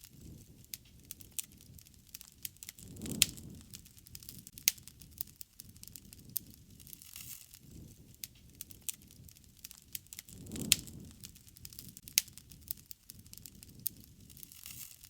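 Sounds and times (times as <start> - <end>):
campfire crackling: 0.0 - 15.0
loud fire snaps: 0.0 - 15.0.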